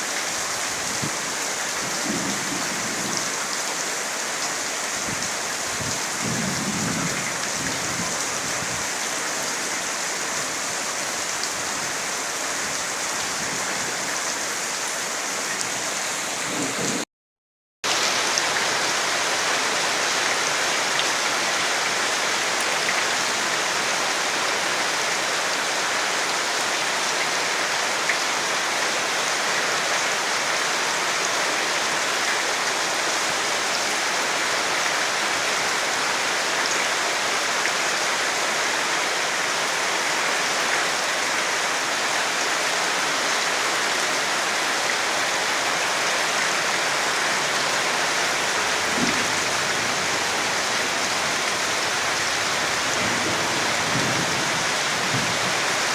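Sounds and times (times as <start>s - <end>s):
steady rain falling: 0.0s - 17.1s, 17.8s - 55.9s.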